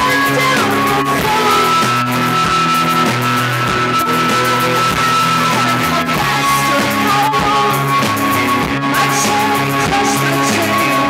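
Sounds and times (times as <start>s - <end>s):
guitar rock music: 0.0s - 11.0s.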